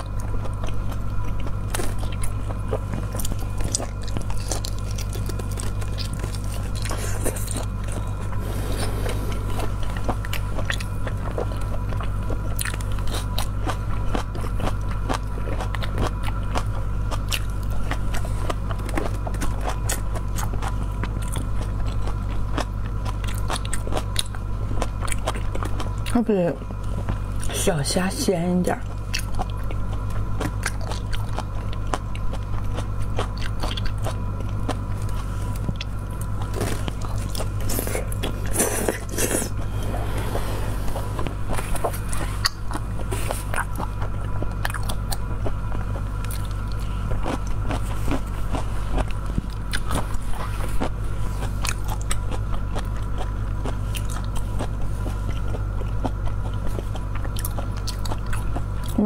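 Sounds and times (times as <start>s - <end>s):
close chewing with wet clicks: 0.0s - 8.4s, 9.6s - 27.6s, 28.3s - 39.7s, 41.2s - 59.0s
steady low hum: 0.0s - 59.0s.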